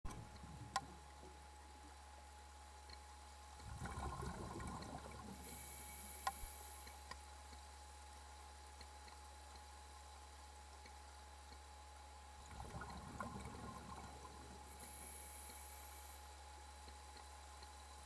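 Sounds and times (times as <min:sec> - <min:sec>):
low underwater hum: 0:00.0 - 0:18.0.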